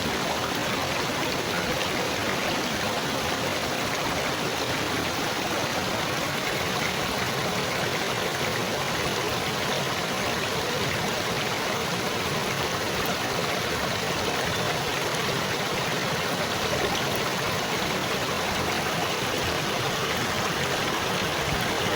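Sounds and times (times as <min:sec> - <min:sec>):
babbling stream water: 0:00.0 - 0:21.9.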